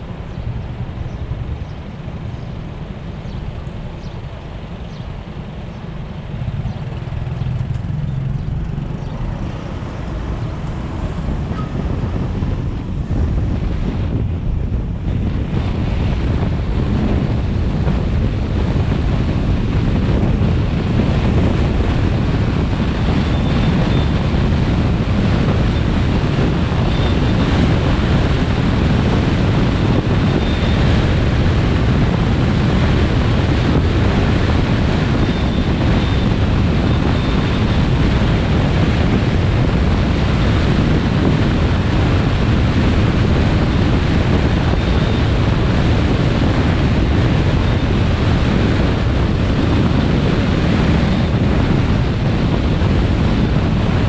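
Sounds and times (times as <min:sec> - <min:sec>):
vehicle road noise: 0:00.0 - 0:54.0
wind rushing over microphone: 0:00.0 - 0:54.0.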